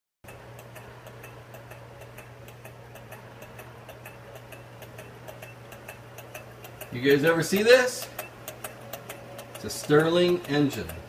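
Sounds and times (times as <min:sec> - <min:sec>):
low steady hum: 0:00.3 - 0:11.0
stirling engine ticking: 0:00.3 - 0:11.0.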